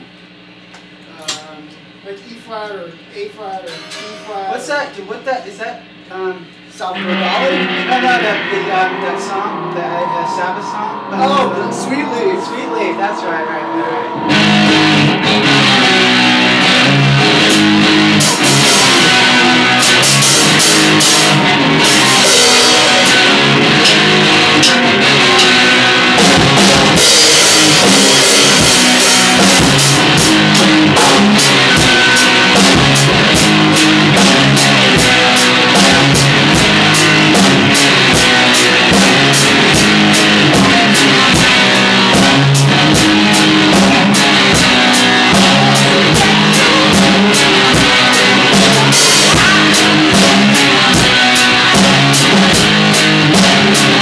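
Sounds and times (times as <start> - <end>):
drum kit: 5.8 - 54.0
electric guitar playing: 6.0 - 54.0.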